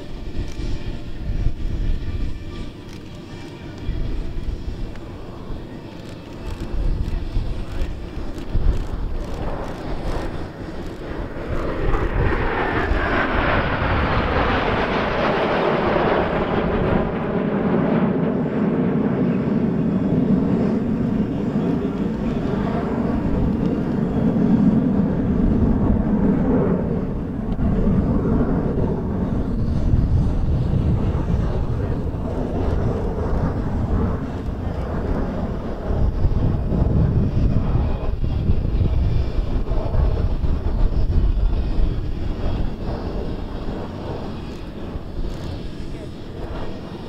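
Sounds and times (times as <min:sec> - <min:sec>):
jet planes flying over: 0:00.0 - 0:47.0.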